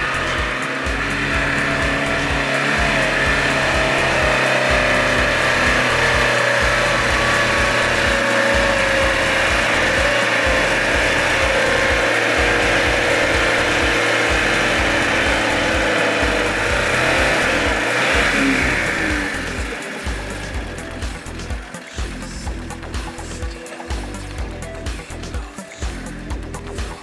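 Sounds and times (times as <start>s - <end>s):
engine running with high whine: 0.0s - 27.0s
music with repeating bass: 0.0s - 27.0s.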